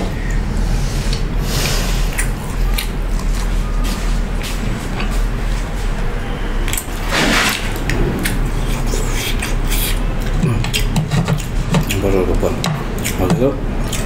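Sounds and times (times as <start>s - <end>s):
low electrical hum: 0.0s - 14.0s
person chewing food: 1.1s - 5.6s, 6.6s - 14.0s.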